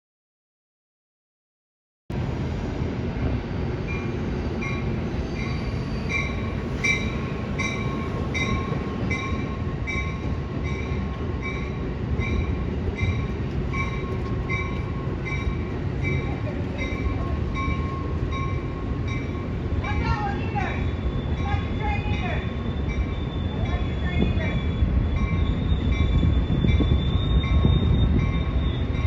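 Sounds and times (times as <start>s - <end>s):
train rumbling past: 2.1s - 29.0s.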